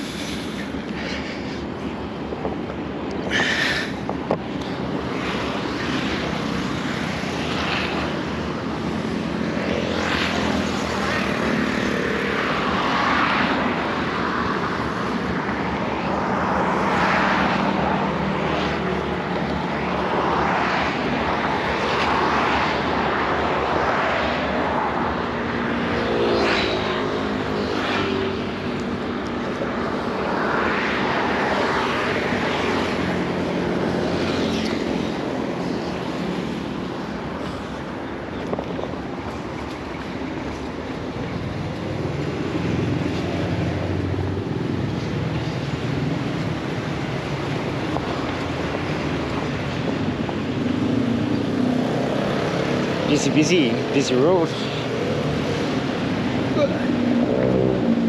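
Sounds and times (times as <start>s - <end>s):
cars passing: 0.0s - 58.0s
motorbikes passing: 0.0s - 58.0s.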